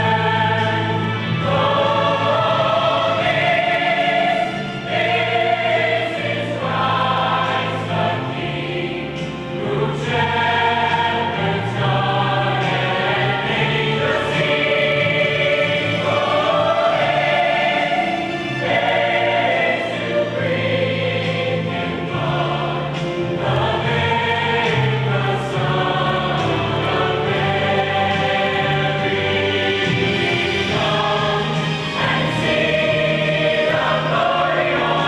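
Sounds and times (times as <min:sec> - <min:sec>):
choir singing long held notes: 0:00.0 - 0:35.0.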